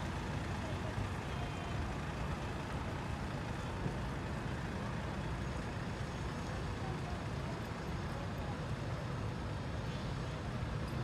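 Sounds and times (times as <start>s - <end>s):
van engine and tyres rumbling: 0.0s - 11.0s.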